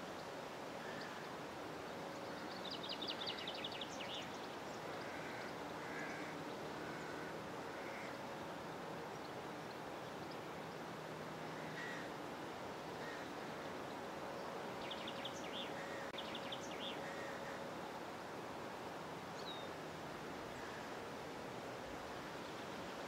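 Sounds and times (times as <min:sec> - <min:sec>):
steady hiss: 0:00.0 - 0:23.0
wild birdsong: 0:00.0 - 0:23.0.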